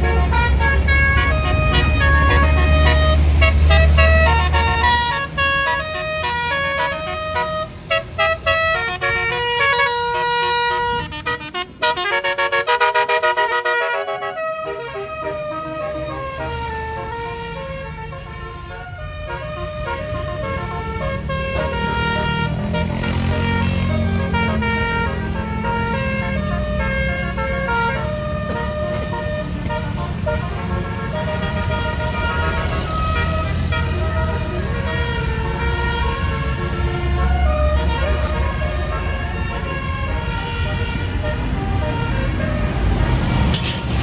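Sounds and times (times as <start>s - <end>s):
bus engine running: 0.0s - 44.0s
multi-note bus horn melody: 0.0s - 44.0s.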